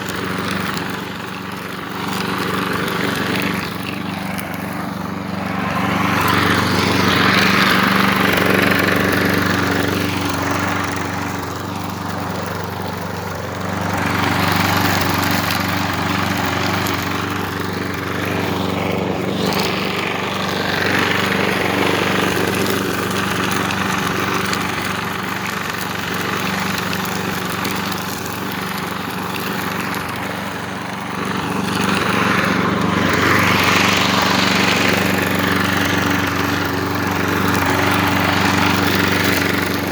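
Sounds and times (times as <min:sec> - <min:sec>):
lawn mower engine running: 0:00.0 - 0:39.9
mower blade rushing through grass: 0:00.0 - 0:39.9.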